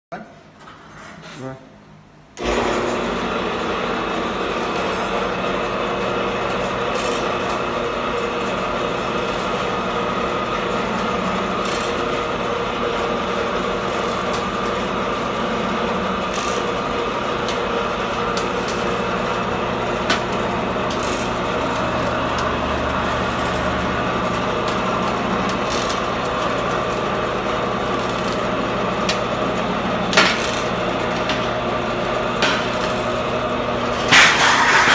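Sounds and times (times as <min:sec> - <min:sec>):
electric motor and gearing running: 0:02.4 - 0:34.9.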